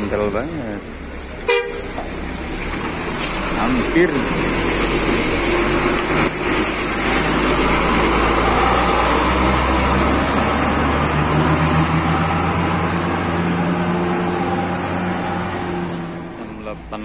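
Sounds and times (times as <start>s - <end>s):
diesel bus engine passing: 0.0s - 17.0s.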